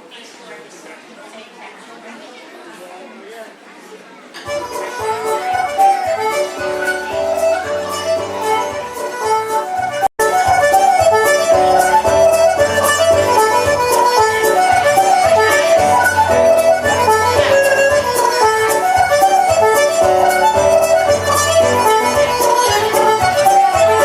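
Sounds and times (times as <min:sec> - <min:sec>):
free-reed folk melody: 0:04.5 - 0:24.0
bass line: 0:04.6 - 0:24.0.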